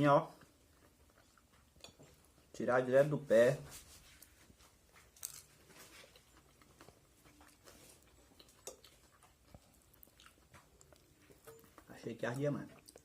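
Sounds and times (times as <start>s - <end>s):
person chewing chili pepper: 0.3s - 2.6s, 4.2s - 13.0s.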